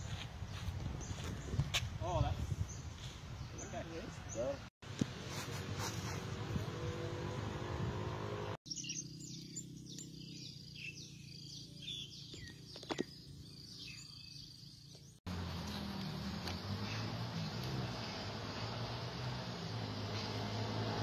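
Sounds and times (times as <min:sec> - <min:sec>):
birds chirping: 0:00.0 - 0:04.7, 0:08.6 - 0:21.0.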